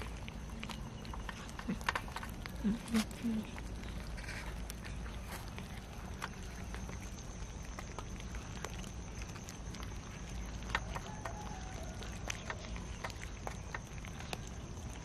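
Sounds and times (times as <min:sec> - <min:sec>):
cats chewing and lapping: 0:00.0 - 0:15.0.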